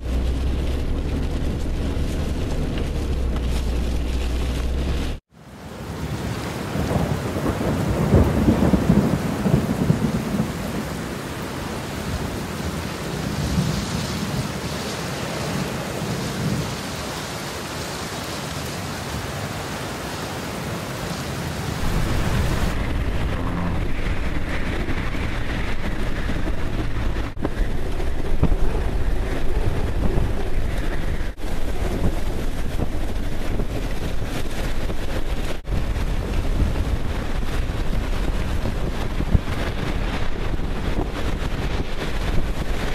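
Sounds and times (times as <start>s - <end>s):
heavy rain on car windshield: 0.0s - 17.3s, 21.7s - 42.9s
wind rumbling against car: 0.0s - 17.3s, 20.7s - 42.9s.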